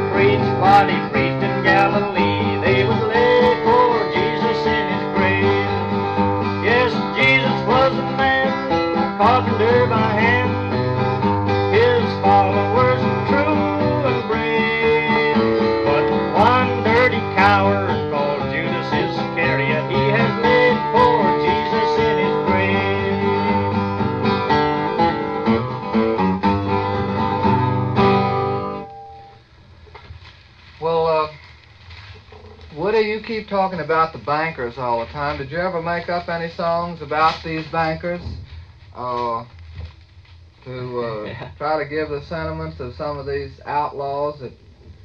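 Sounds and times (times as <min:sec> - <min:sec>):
acoustic guitar folk tune: 0:00.0 - 0:45.0.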